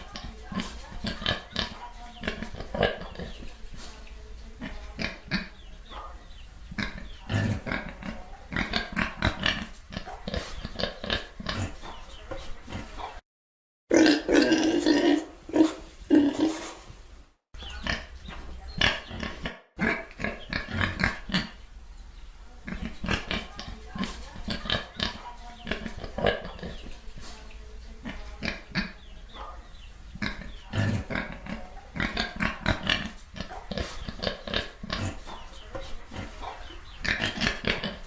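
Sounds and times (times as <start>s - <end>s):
pigs grunting and oinking: 0.0s - 3.5s, 4.5s - 5.7s, 6.7s - 13.2s, 13.9s - 16.7s, 17.6s - 21.6s, 22.6s - 27.0s, 28.0s - 29.5s, 30.1s - 38.0s.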